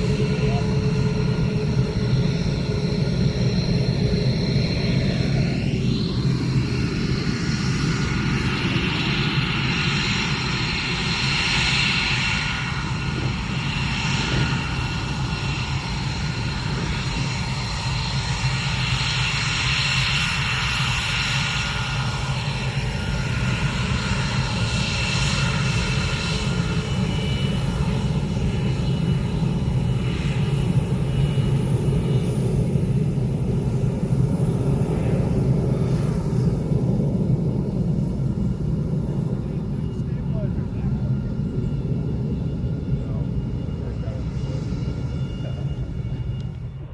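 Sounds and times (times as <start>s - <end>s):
aircraft engine low rumble: 0.0s - 46.9s
high whining engine tones: 0.0s - 46.9s.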